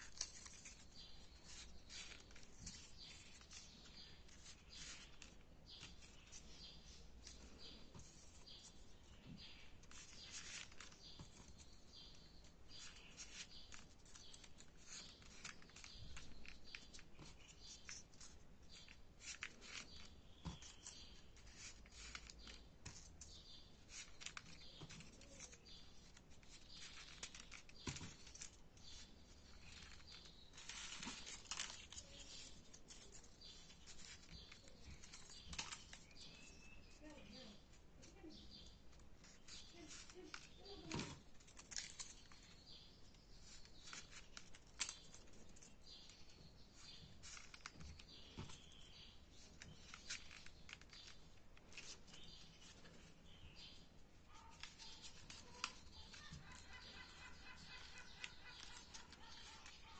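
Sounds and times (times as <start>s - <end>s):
paper rustling and crinkling: 0.0s - 59.9s.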